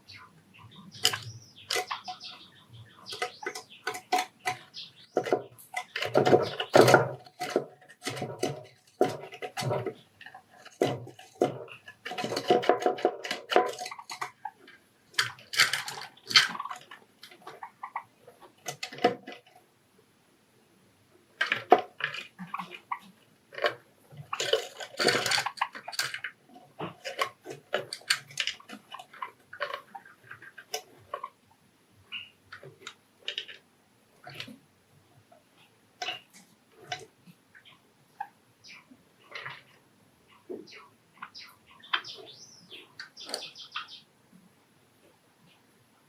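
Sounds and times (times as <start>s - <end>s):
birds tapping at a dish: 0.0s - 19.6s, 21.4s - 31.4s, 32.1s - 33.6s, 36.0s - 44.0s.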